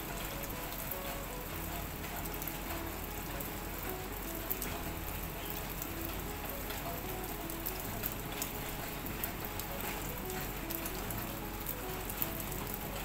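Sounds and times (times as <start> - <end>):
light rain on leaves: 0.0 - 13.0
single raindrops tapping: 0.0 - 13.0.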